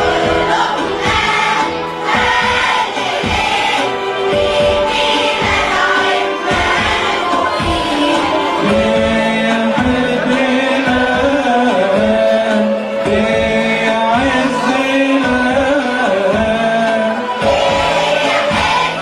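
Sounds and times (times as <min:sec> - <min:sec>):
choir singing a hymn: 0:00.0 - 0:19.0
regular beat: 0:00.0 - 0:19.0.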